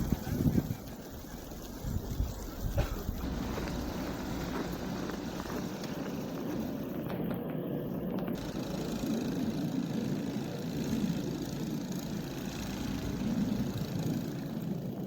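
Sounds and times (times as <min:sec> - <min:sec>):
vehicle engine low rumble: 0:00.0 - 0:15.0.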